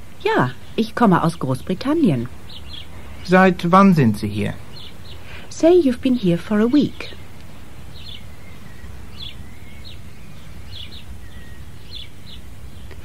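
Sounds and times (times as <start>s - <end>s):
high bird chirps: 0.0s - 13.0s.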